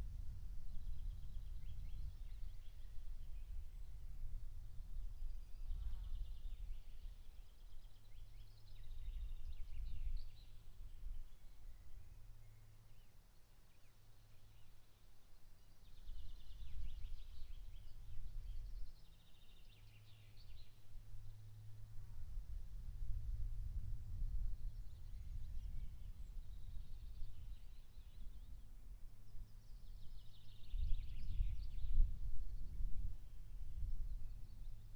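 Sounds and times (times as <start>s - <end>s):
songbird singing trills: 0.7s - 4.1s, 5.0s - 21.7s, 23.8s - 34.9s.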